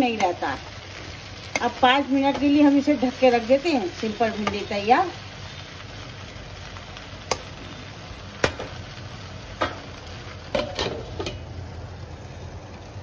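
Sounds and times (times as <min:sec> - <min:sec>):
okra sizzling in a pan: 0:00.0 - 0:13.0.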